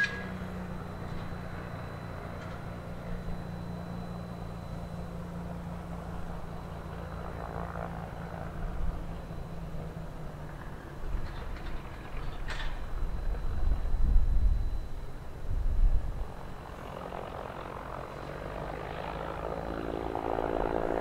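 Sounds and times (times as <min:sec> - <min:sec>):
propeller aircraft engine droning: 0:00.0 - 0:21.0.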